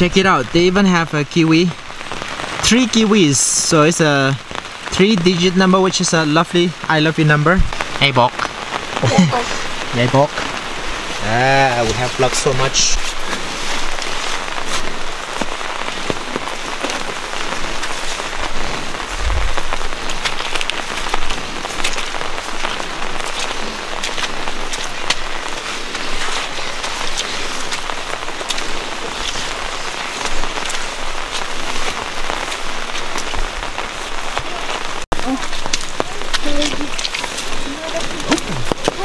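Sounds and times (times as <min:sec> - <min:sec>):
rain on leaves and ground: 0:00.0 - 0:39.0.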